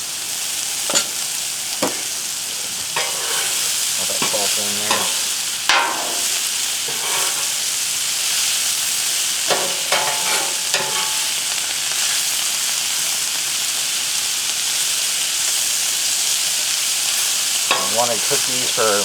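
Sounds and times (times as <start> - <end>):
vegetables sizzling on a griddle: 0.0 - 19.0.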